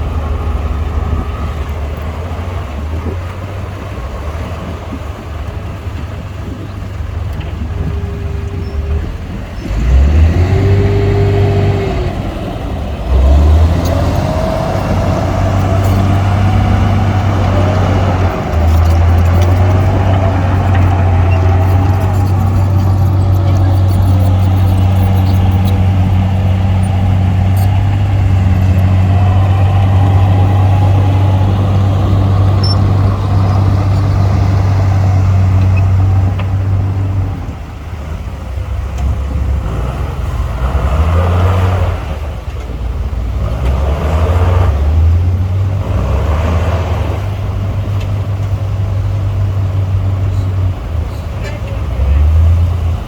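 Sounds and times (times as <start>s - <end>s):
heavy diesel engine revving: 0.0s - 53.0s.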